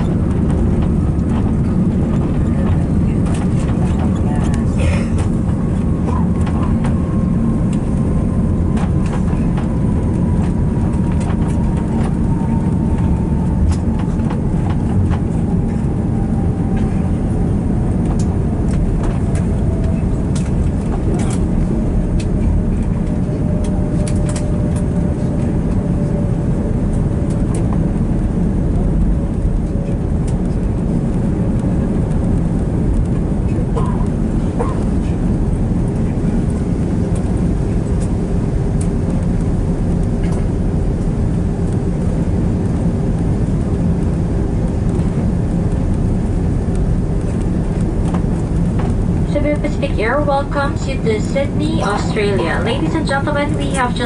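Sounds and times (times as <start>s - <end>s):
jet engine whine falling: 0.0s - 54.0s
rumble of wheels and engines: 0.0s - 54.0s.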